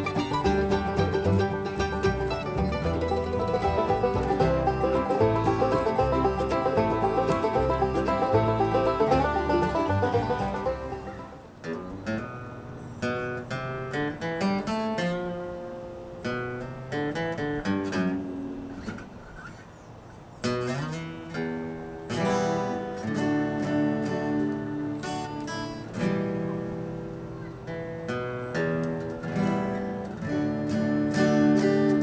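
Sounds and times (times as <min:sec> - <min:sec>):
acoustic guitar picking and strumming: 0:00.0 - 0:19.7, 0:20.4 - 0:32.0.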